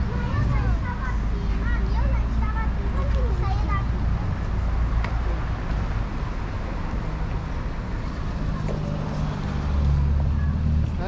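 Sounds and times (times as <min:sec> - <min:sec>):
steady traffic rumble: 0:00.0 - 0:11.0.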